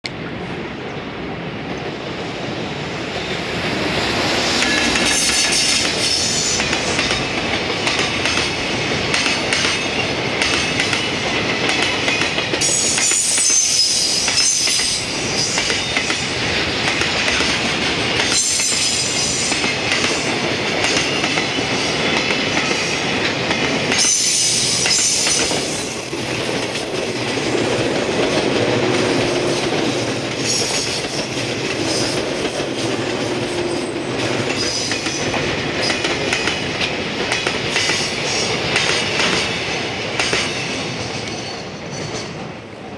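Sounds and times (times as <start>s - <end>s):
train wheels rumbling on rail: 0.0s - 42.9s
electric train passing: 0.1s - 42.9s.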